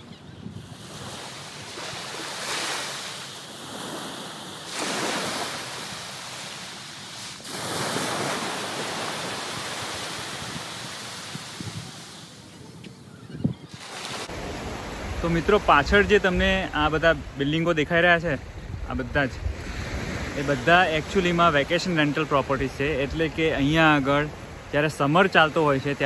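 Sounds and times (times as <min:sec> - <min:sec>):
waves breaking on sandy beach: 0:00.0 - 0:12.9, 0:13.6 - 0:26.0.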